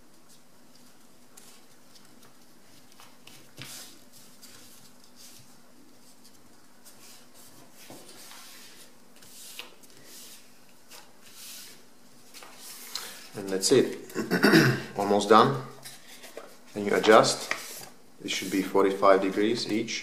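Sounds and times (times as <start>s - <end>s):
faint steady hum: 0.0s - 20.0s
paper being folded and creased: 0.1s - 14.0s, 15.8s - 19.8s.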